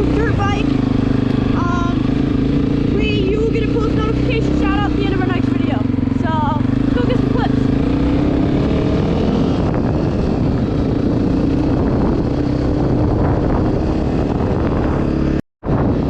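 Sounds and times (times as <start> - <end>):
dirt bike engine running: 0.0 - 16.0
wind noise on microphone: 0.0 - 16.0.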